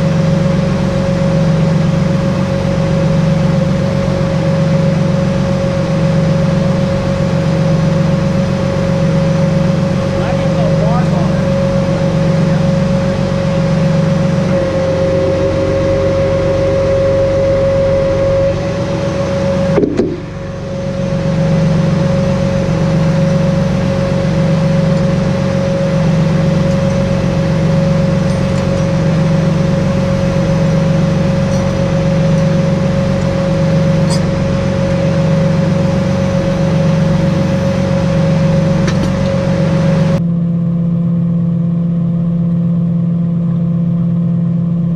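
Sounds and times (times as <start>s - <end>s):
steady whine: 0.0s - 44.9s
tow truck engine running: 0.0s - 44.9s.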